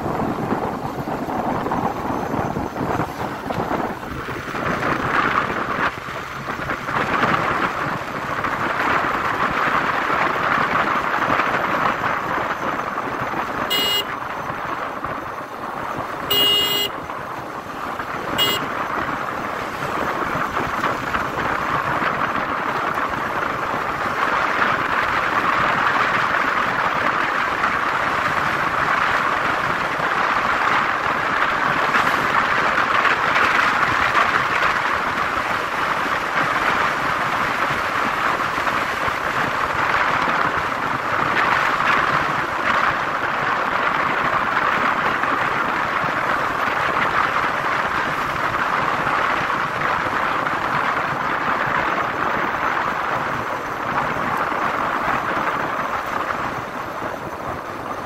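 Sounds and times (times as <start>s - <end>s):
motorcycle engine: 0.0s - 58.0s
wind and road noise: 0.0s - 58.0s.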